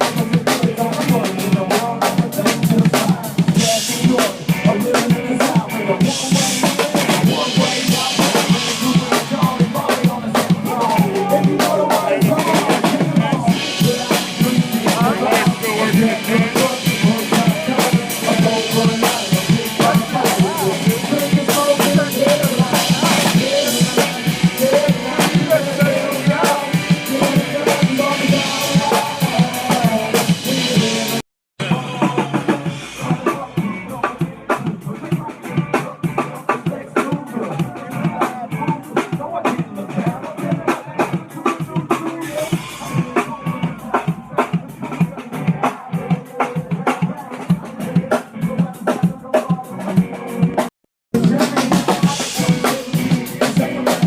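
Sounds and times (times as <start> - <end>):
drum kit beat: 0.0 - 54.0
live band music: 0.0 - 54.0.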